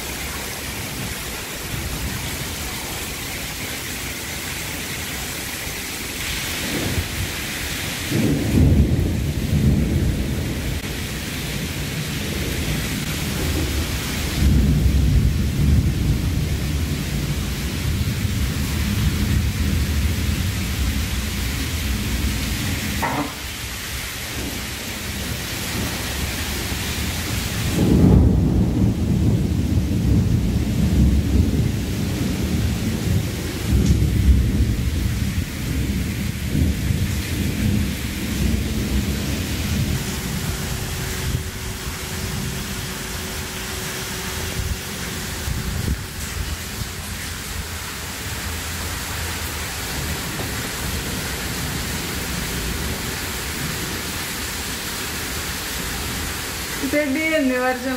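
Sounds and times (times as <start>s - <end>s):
heavy rain pouring: 0.0s - 57.9s
thunder rumbling: 5.7s - 54.6s.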